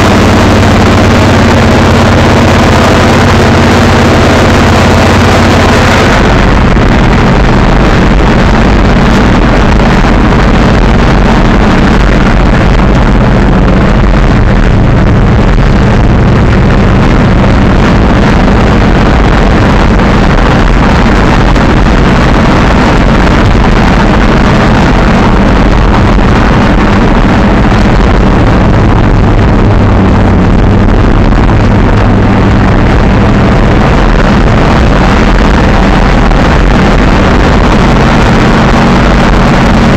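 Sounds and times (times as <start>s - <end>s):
truck engine running loud: 0.0s - 39.9s.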